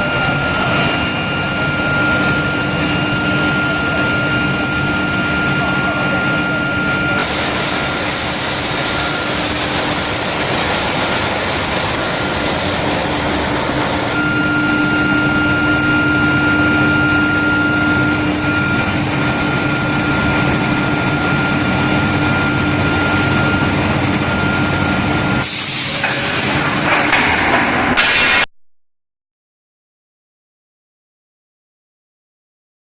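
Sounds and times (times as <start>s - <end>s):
loud steady industrial noise: 0.0s - 28.5s.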